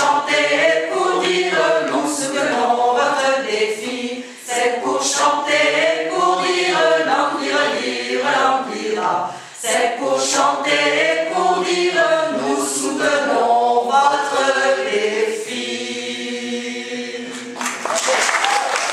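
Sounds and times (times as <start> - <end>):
mixed choir singing: 0.0 - 17.9.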